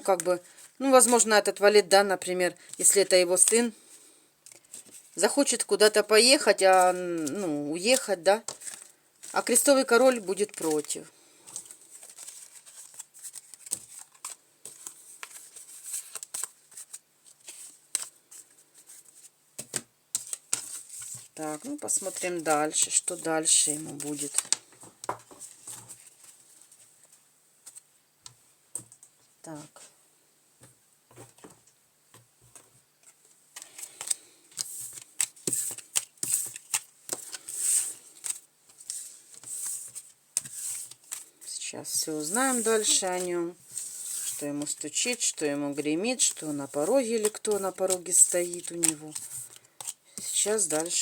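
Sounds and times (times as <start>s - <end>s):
playing cards clicking and rustling: 6.6s - 29.2s, 31.1s - 41.4s, 42.0s - 51.0s.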